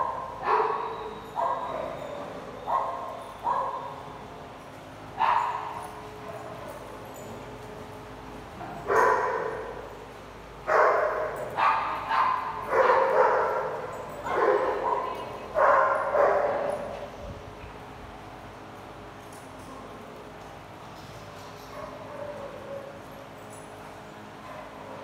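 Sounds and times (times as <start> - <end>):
dogs barking in a large room: 0.0 - 25.0.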